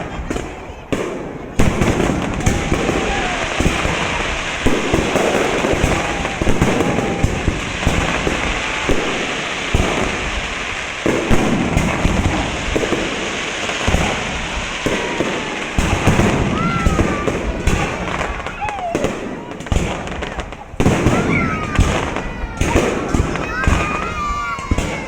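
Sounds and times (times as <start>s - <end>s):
fireworks banging and crackling: 0.0s - 25.0s.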